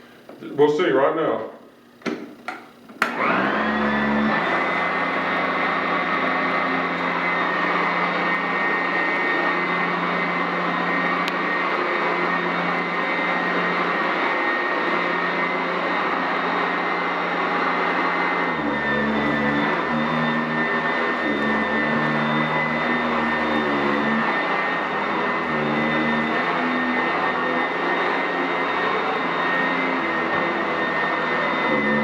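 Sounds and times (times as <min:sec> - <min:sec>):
upright vacuum whining: 0:00.0 - 0:32.0.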